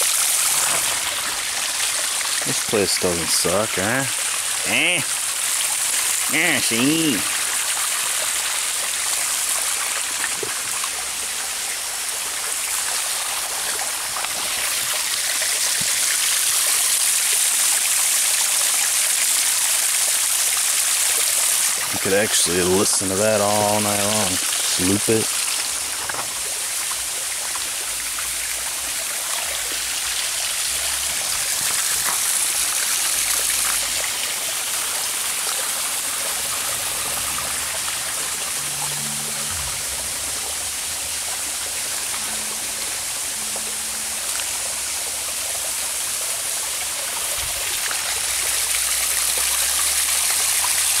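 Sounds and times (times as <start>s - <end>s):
small waterfall splashing: 0.0s - 51.0s.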